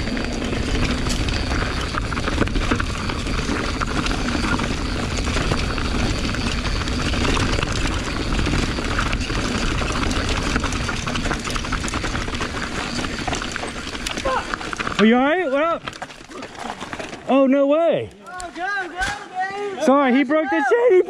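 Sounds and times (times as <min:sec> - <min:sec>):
bike rattling clicks: 0:00.0 - 0:19.6
bike tyre rumble: 0:00.0 - 0:20.4.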